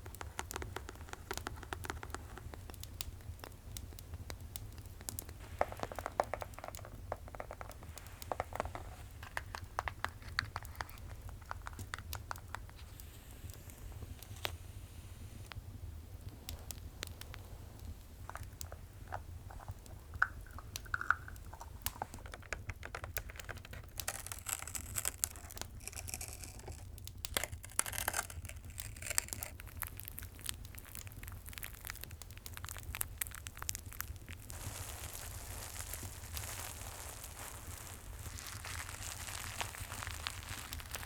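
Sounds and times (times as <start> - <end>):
crinkling and rustling: 0.0 - 14.7, 16.2 - 41.0.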